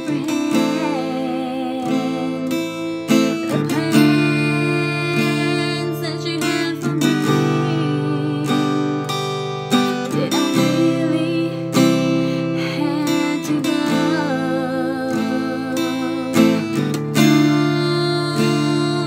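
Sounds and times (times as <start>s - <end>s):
acoustic guitar strumming: 0.0s - 19.0s
woman singing: 0.0s - 19.0s.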